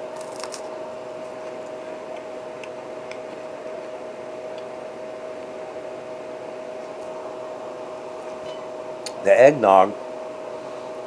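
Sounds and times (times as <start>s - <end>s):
mechanical hum with whine: 0.0s - 11.0s.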